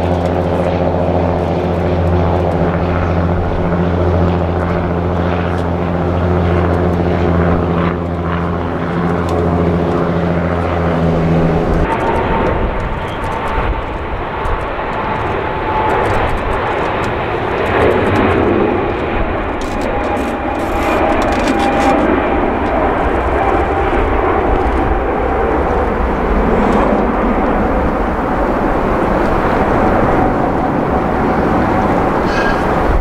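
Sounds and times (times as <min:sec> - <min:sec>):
faint jet whine: 0:00.0 - 0:33.0
jet engine roar: 0:00.0 - 0:33.0
jet engines low drone: 0:00.0 - 0:33.0.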